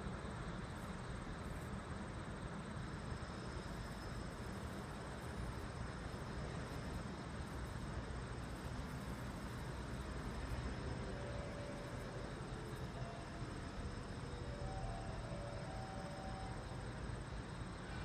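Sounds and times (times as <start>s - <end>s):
electric train rumbling away: 0.0s - 18.0s.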